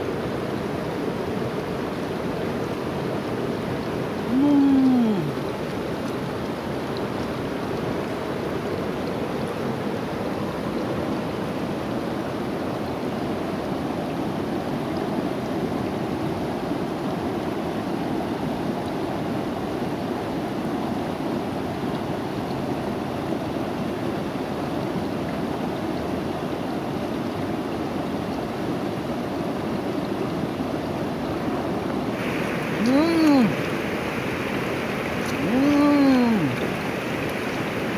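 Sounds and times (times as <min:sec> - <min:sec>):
river flowing over stones: 0:00.0 - 0:37.9.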